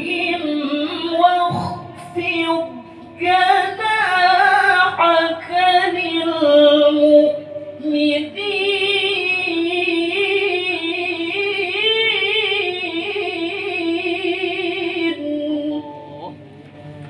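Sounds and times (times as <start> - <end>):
person reciting melodically: 0.0 - 17.0.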